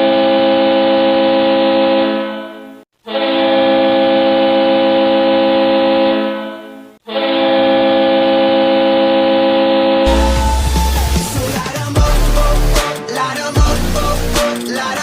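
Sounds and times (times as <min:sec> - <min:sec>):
goal horn blasts: 0:00.0 - 0:13.8.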